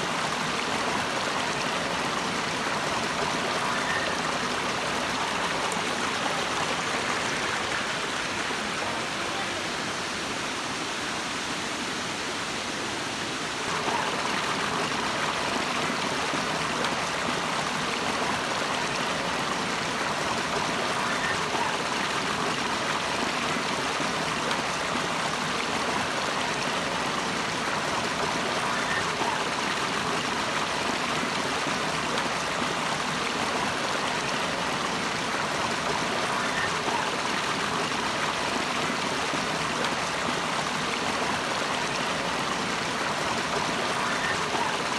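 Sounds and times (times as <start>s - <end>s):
waterfall and stream rushing: 0.0s - 44.9s.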